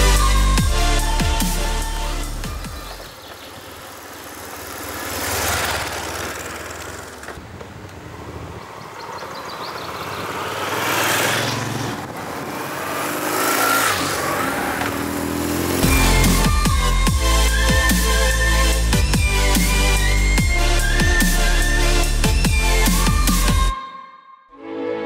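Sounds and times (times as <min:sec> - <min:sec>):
road vehicles passing: 0:00.0 - 0:23.7.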